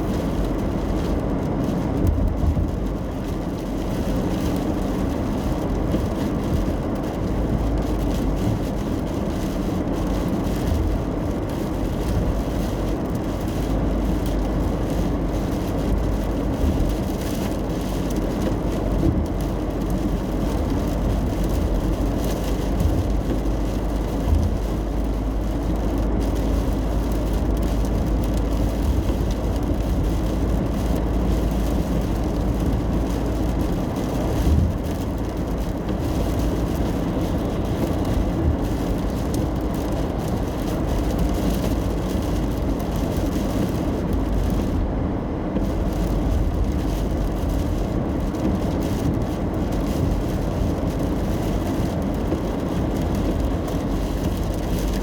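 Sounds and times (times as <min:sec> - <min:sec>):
car road and engine noise: 0:00.0 - 0:55.0
tyres hissing on wet road: 0:00.0 - 0:55.0.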